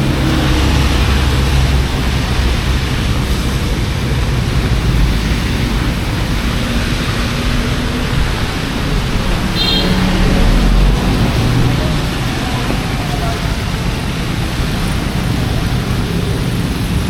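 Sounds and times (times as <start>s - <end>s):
low rumble: 0.0s - 16.2s
heavy rain hissing: 0.0s - 17.0s.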